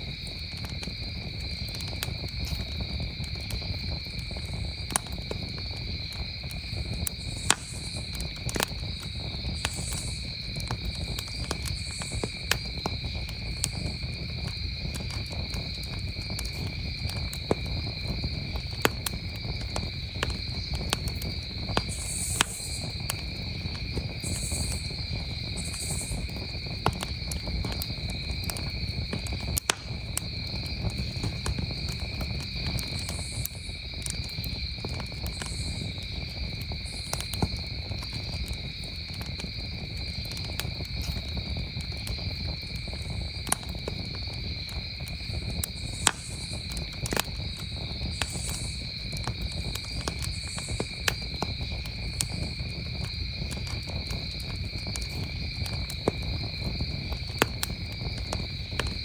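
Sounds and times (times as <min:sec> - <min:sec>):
campfire crackling: 0:00.0 - 0:59.0
crickets chirping: 0:00.0 - 0:59.0
sharp pops of fire: 0:00.0 - 0:59.0.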